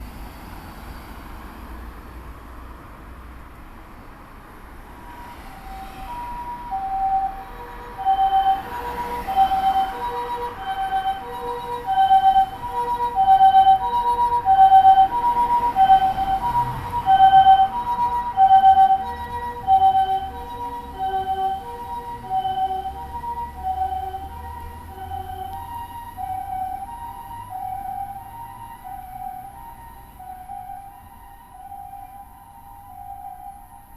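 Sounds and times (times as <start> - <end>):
low street rumble: 0.0 - 33.9
two-tone ambulance siren: 4.8 - 33.9.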